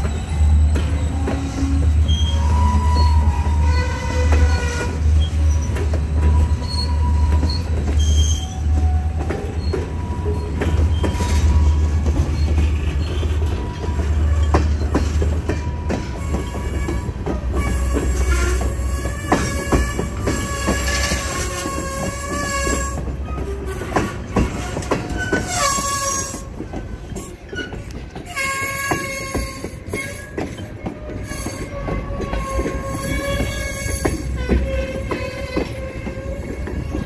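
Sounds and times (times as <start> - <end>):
freight train rumbling past: 0.0 - 37.0
high-pitched wheel squeals: 0.0 - 37.0.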